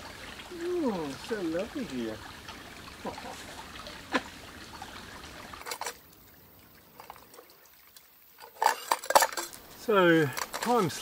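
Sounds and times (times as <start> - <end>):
creek trickling over stones: 0.0 - 11.0.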